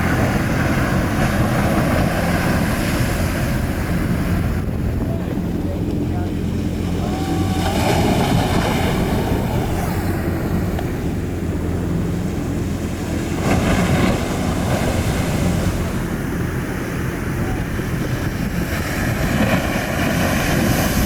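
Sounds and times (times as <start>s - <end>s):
low hum: 0.0s - 21.0s
ocean surf: 0.0s - 21.0s
wind buffeting microphone: 0.0s - 21.0s.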